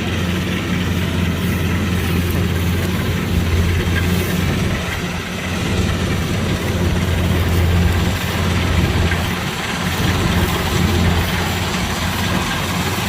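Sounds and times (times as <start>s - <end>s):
combine harvester engine hum: 0.0s - 13.0s
machinery hiss: 0.2s - 13.0s.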